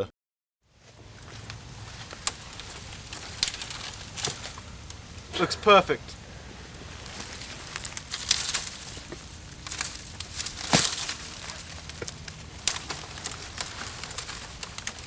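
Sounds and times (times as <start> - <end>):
dry sticks and leaves crunching: 0.8 - 5.1, 6.9 - 15.0.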